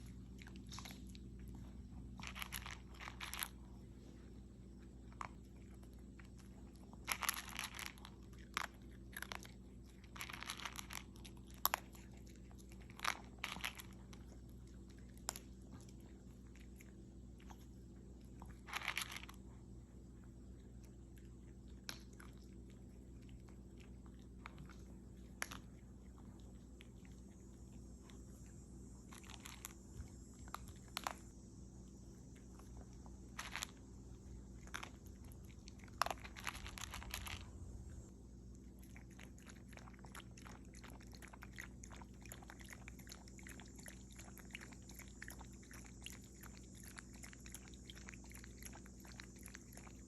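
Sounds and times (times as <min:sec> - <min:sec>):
dog chewing and crunching food: 0:00.0 - 0:50.0.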